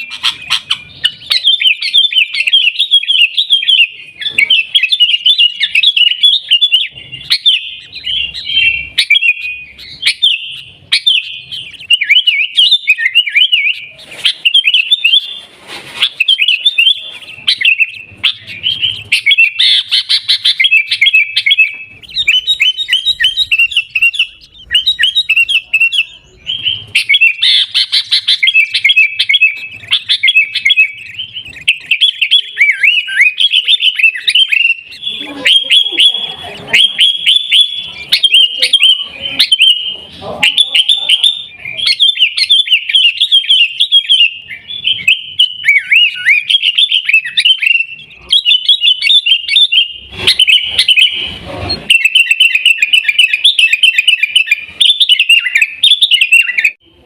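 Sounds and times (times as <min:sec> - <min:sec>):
bird chirping and trilling: 0:00.0 - 0:57.0.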